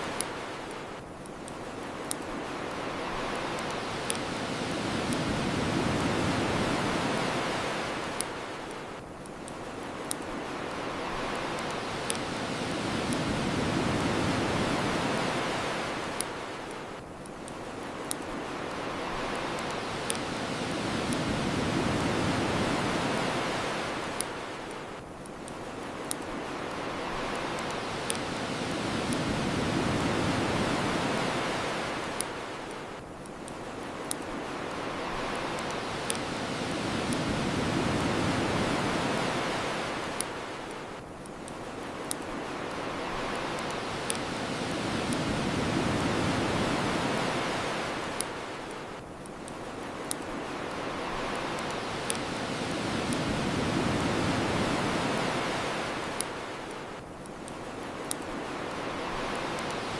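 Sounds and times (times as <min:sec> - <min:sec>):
bonfire crackling and popping: 0:00.0 - 0:59.9
ocean waves washing on shore: 0:00.0 - 0:59.9.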